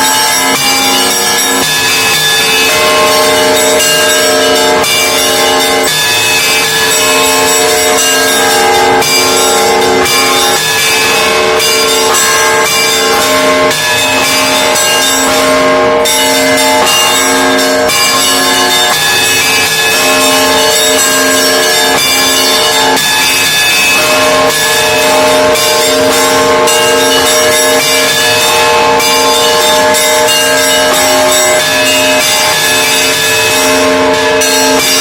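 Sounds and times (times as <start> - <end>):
church bells pealing: 0.0 - 35.0
mid-pitched bell repeating: 0.0 - 35.0.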